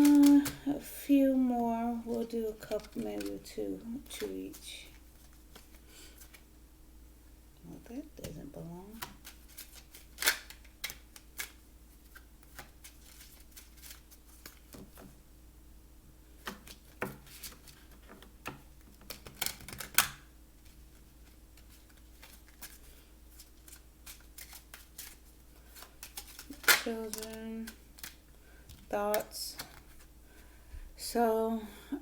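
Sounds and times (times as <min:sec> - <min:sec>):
cards being shuffled: 0:00.0 - 0:00.7, 0:02.0 - 0:06.5, 0:08.2 - 0:15.2, 0:16.4 - 0:30.1
faint steady hum: 0:00.0 - 0:32.0.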